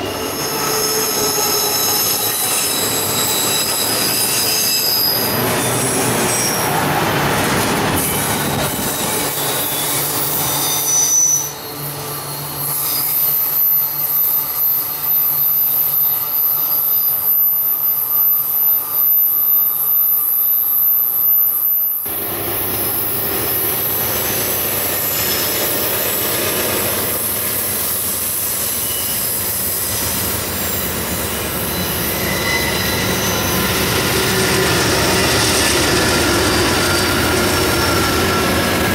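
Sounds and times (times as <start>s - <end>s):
train wheels squealing: 0.0s - 38.9s.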